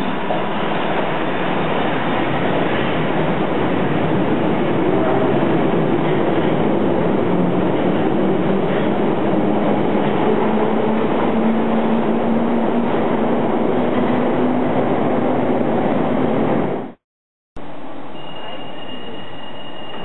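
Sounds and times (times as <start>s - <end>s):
low train hum rising: 0.0s - 17.0s, 17.6s - 20.0s
train wheels rumbling on rails: 0.0s - 17.0s.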